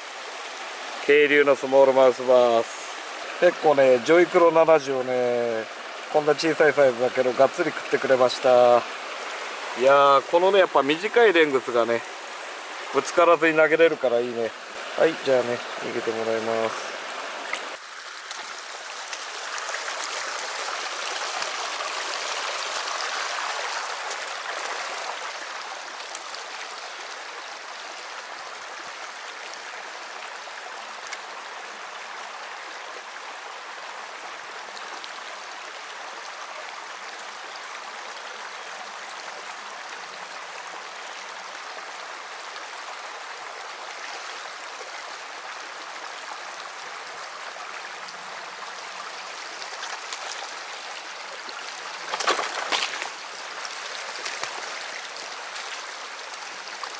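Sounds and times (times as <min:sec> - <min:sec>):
stream splashing over stones: 0:00.0 - 0:56.9.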